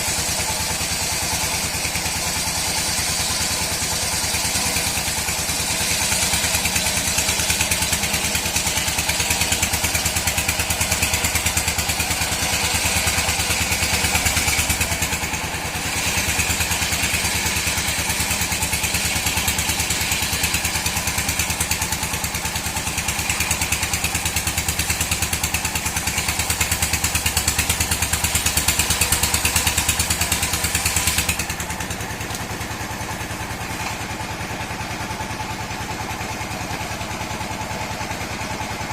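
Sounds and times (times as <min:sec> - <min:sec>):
saw hissing through wood: 0:00.0 - 0:38.9
sawmill engine pulse: 0:00.0 - 0:38.9.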